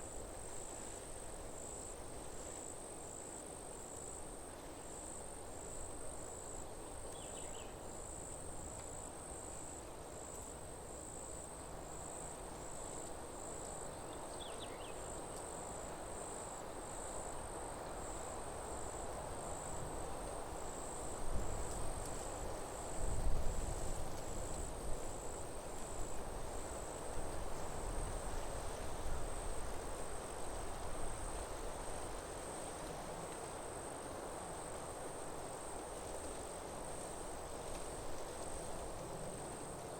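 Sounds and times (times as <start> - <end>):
crickets chirping: 0.0 - 39.9
steady outdoor hiss: 0.0 - 39.9.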